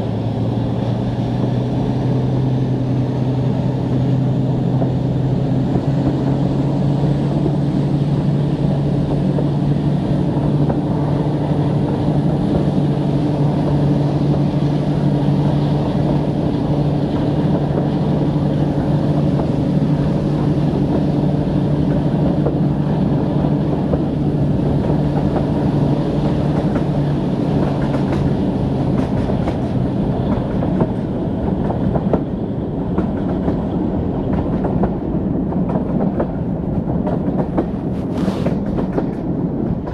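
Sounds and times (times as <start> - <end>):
diesel locomotive engines running: 0.0 - 39.9
train wheel and rail noise: 0.0 - 39.9
wheels clacking over rail joints: 0.0 - 39.9.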